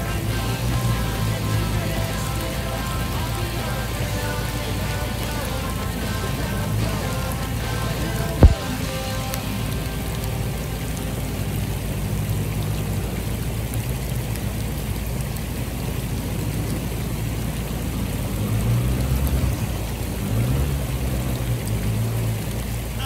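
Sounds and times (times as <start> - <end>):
rain hiss: 0.0 - 23.0
vehicle engine running: 0.0 - 23.0.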